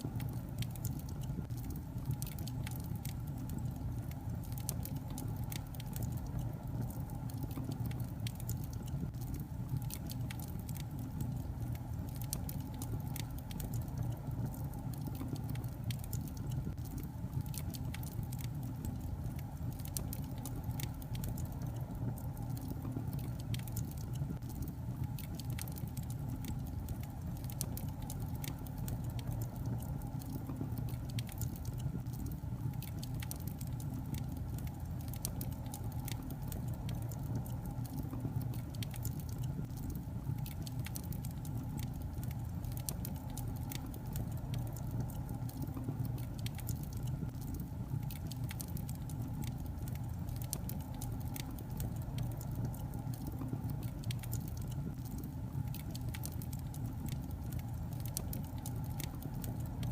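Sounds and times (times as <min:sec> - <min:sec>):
fire crackles and pops: 0:00.0 - 0:59.9
fire rumbling: 0:00.0 - 0:59.9.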